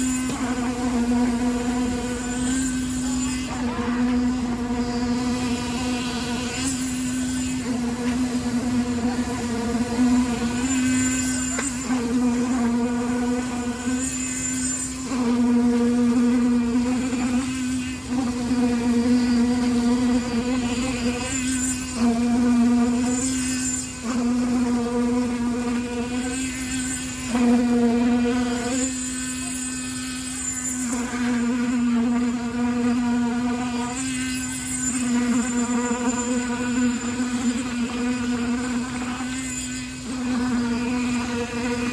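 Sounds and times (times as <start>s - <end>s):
small motor humming: 0.0s - 41.9s.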